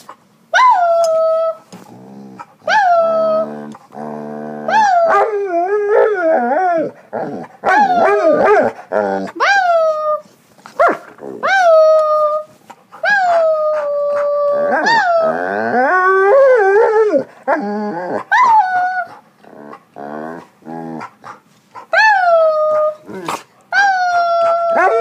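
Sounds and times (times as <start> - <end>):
dog howling: 2.2 - 10.0, 11.3 - 21.0, 22.0 - 25.0.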